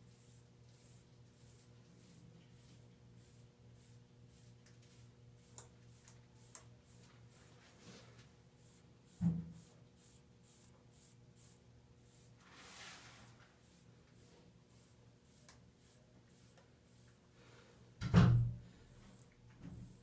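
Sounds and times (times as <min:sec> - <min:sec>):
brush strokes through hair: 0:00.0 - 0:17.2.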